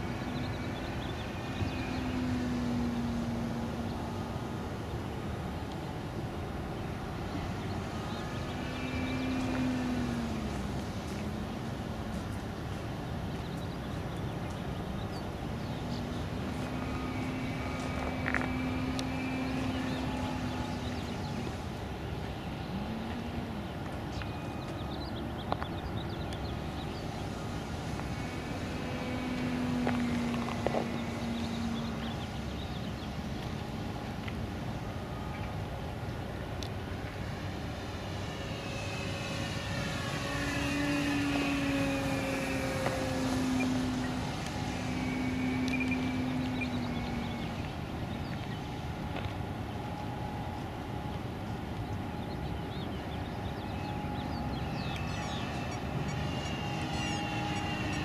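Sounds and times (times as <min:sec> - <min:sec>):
model plane electric motor: 0:05.7 - 0:12.0, 0:15.3 - 0:25.6, 0:26.3 - 0:34.3, 0:35.0 - 0:58.0.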